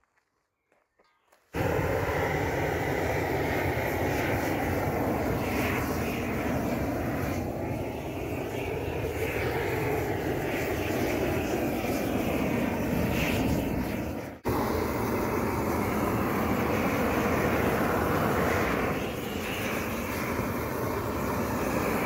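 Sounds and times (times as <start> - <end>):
gas burner torch running: 1.6 - 22.0.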